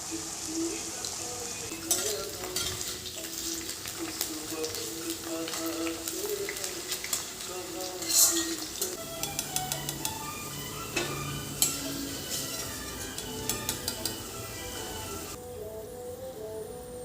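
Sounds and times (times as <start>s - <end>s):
metal spoon scraping a pan: 1.7s - 15.4s
soft instrumental music: 1.7s - 17.0s.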